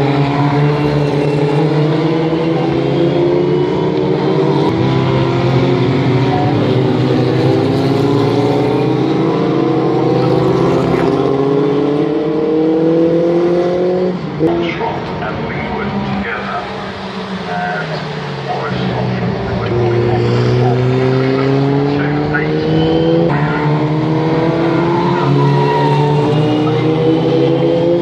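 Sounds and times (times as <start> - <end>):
racing car engines accelerating: 0.0 - 28.0.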